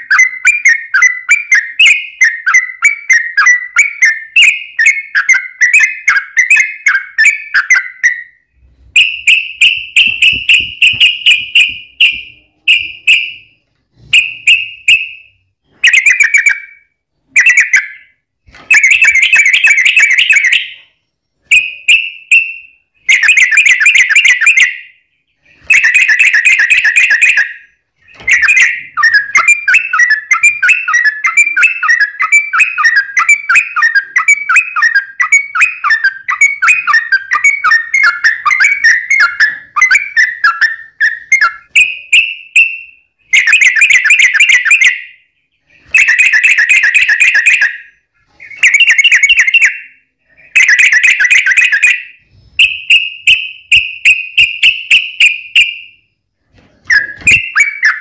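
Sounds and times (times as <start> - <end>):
bulbul singing: 0.0 - 56.1, 56.9 - 58.0.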